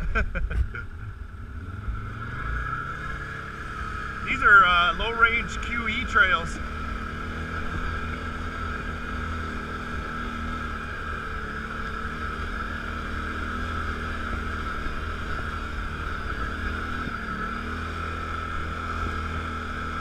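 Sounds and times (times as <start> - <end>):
atv engine running: 0.0 - 20.0
high whine: 0.0 - 20.0.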